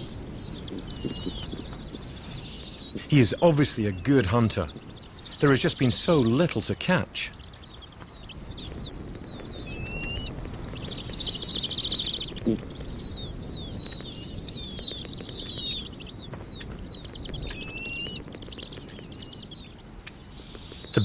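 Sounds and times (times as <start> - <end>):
low rumble of wind: 0.0 - 21.0
small bird twittering and trilling: 0.0 - 21.0.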